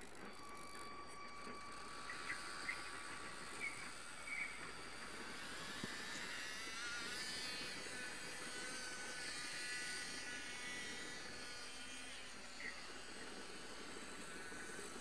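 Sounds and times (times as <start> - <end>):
small electric motor whine: 0.0 - 15.0.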